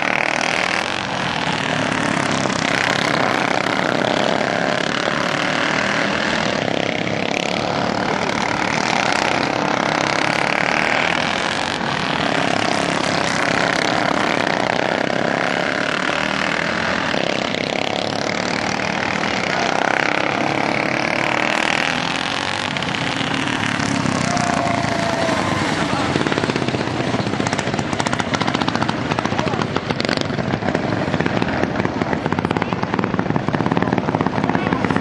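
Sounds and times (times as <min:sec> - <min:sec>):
racing lawn mower engines: 0:00.0 - 0:35.0.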